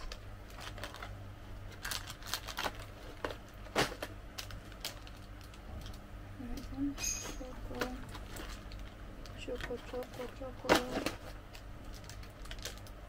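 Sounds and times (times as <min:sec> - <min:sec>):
wrapper crinkling: 0:00.0 - 0:06.8, 0:07.4 - 0:13.0.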